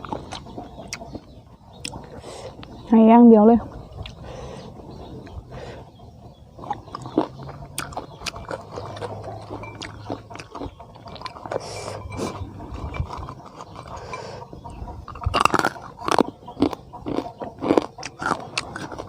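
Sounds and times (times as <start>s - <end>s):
chewing: 0.0s - 2.8s, 3.9s - 19.0s.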